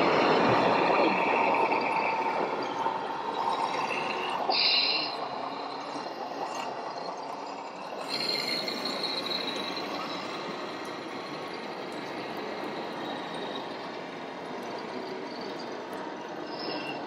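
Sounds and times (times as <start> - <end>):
high-pitched whine: 0.0 - 17.0
model trucks running: 0.0 - 17.0.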